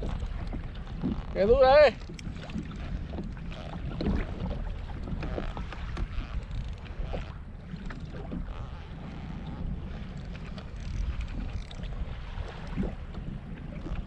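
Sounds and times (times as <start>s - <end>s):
water lapping against hull: 0.0s - 14.0s
wind buffeting microphone: 0.0s - 14.0s.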